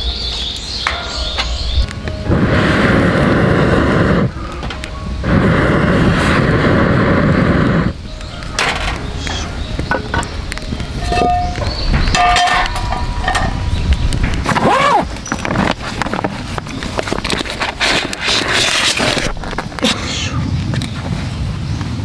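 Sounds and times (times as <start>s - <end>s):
firewood crackling and popping: 0.3s - 22.0s
air blown into fire roaring: 1.8s - 22.0s.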